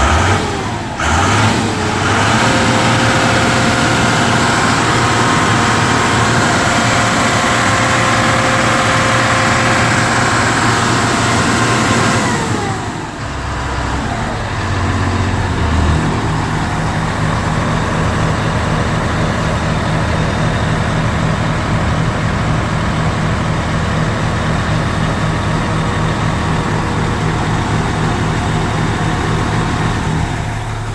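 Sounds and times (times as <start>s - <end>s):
diesel truck engine: 0.0s - 30.9s.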